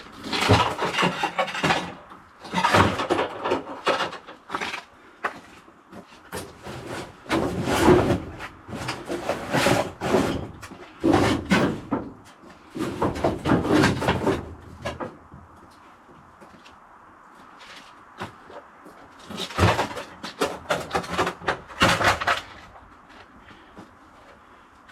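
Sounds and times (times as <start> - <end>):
scraping and rubbing with knocks: 0.1 - 16.8, 17.4 - 24.6.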